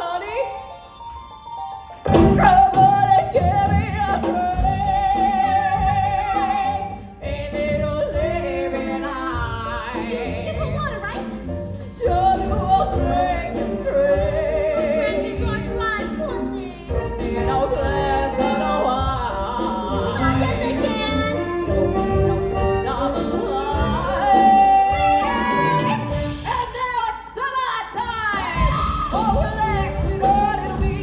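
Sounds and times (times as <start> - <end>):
band accompaniment with low beat: 2.0 - 27.1, 28.3 - 31.0
person singing: 2.1 - 31.0.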